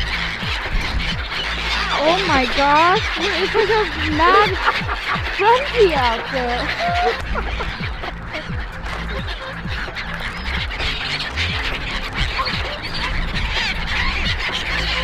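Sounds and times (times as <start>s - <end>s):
gulls crying: 0.0s - 15.0s
swans honking: 0.0s - 15.0s.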